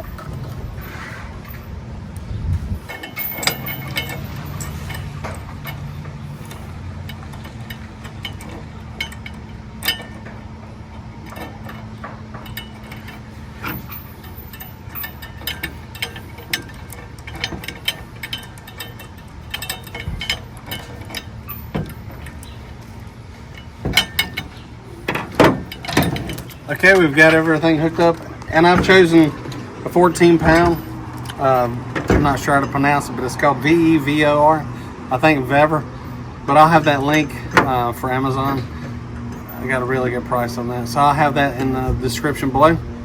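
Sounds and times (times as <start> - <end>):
steady low hum: 0.0 - 43.0
metal chain clinking: 2.8 - 42.8.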